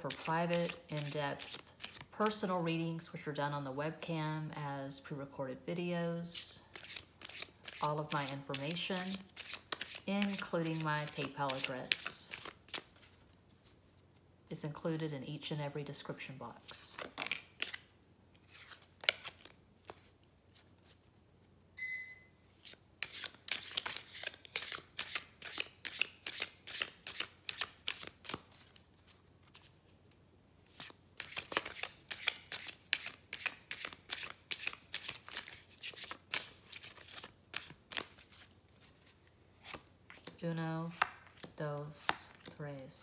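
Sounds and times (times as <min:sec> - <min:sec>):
cards being shuffled by hand: 0:00.0 - 0:02.4, 0:06.3 - 0:14.2, 0:16.6 - 0:21.5, 0:22.6 - 0:42.6.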